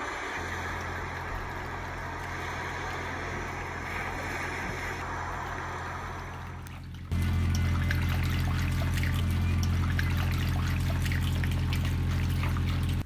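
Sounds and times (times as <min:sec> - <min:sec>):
motor hum with rushing noise: 0:00.0 - 0:13.0.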